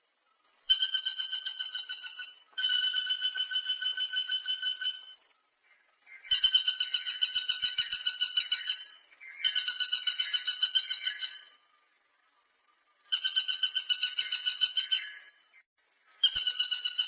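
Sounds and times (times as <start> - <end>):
woodpecker rattling call: 0.7 - 11.6, 13.0 - 15.6, 16.2 - 17.0.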